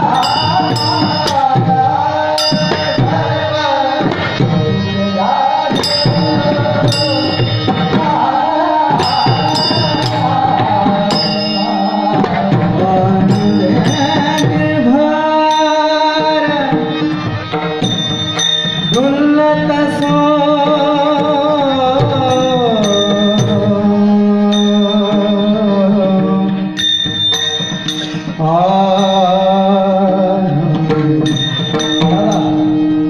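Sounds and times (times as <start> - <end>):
man singing: 0.0 - 17.5, 18.9 - 26.8, 28.1 - 33.0
drum and percussion beat: 0.0 - 33.0.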